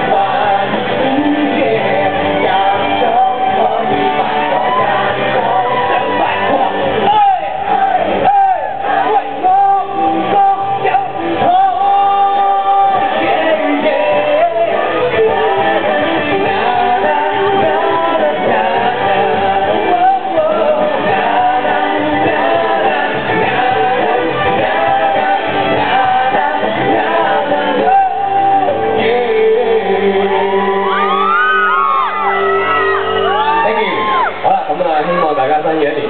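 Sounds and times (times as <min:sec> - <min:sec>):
man singing into microphone: 0:00.0 - 0:32.2
loud pop-rock music: 0:00.0 - 0:36.0.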